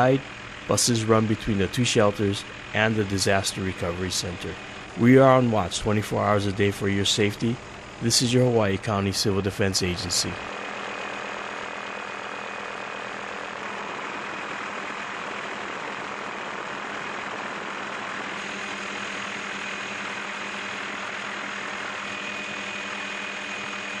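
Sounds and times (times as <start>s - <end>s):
faint steady whine: 0.0s - 24.0s
helicopter engine and rotor: 0.0s - 24.0s.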